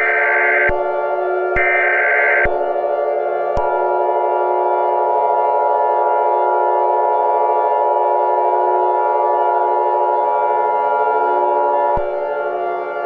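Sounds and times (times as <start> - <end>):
droning synthesizer music: 0.0 - 13.0
steady alarm tone: 0.0 - 13.0.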